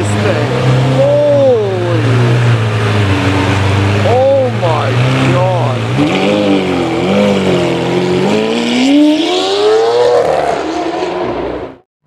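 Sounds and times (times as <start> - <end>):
sports car engine revving: 0.0 - 11.8.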